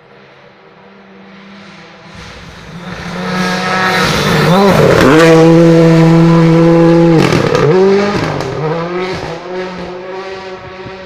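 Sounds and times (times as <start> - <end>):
rally car engine revving: 1.0 - 11.0.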